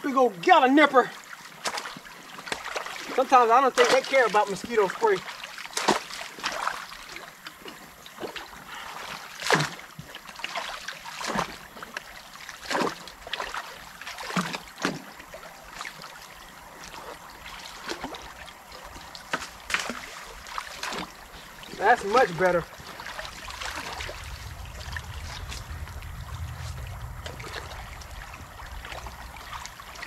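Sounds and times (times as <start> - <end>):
creek water trickling: 0.0 - 30.0
water splashing: 0.1 - 30.0.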